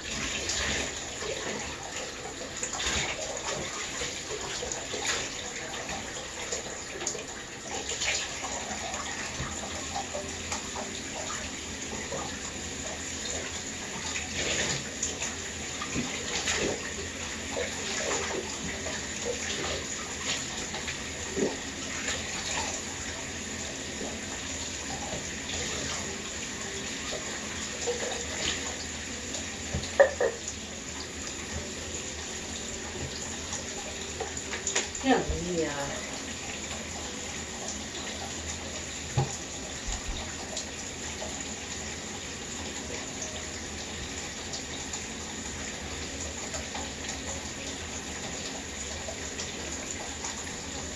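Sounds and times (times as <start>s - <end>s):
water splashing in bathtub: 0.0s - 50.9s.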